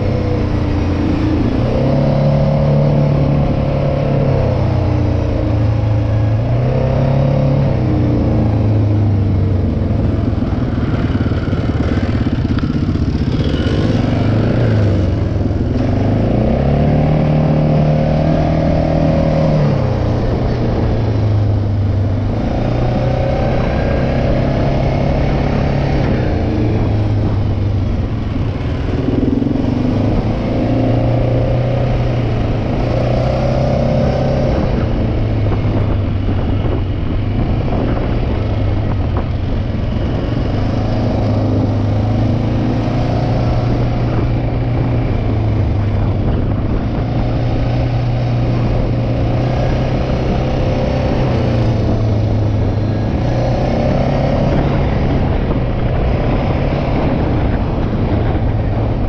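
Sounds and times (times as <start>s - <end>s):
quad engine running: 0.0s - 59.0s.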